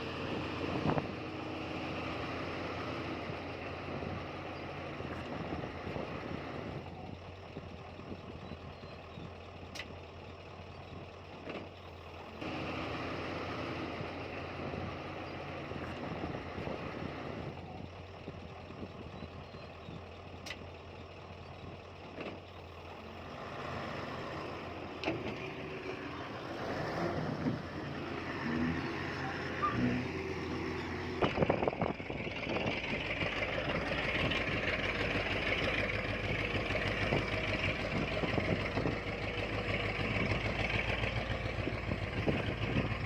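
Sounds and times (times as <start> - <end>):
diesel machinery engine drone: 0.0 - 43.0.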